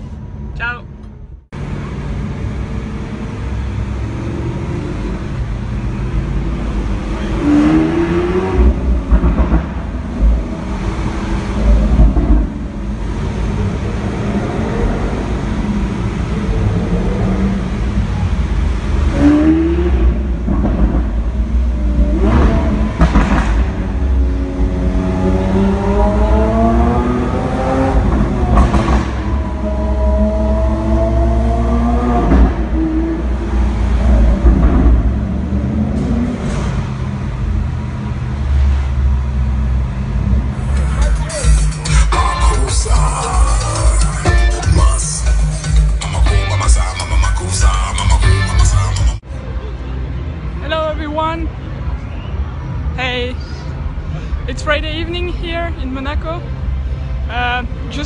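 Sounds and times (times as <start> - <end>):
car engine revving: 1.5 - 49.3.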